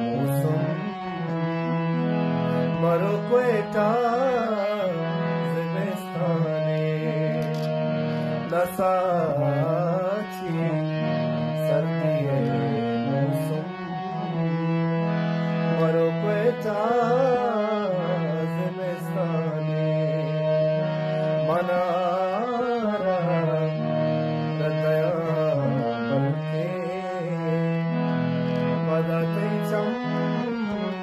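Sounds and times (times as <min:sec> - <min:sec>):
man singing: 0:00.0 - 0:02.0, 0:02.6 - 0:14.6, 0:15.7 - 0:28.0, 0:28.6 - 0:31.0
held instrumental notes: 0:00.0 - 0:31.0.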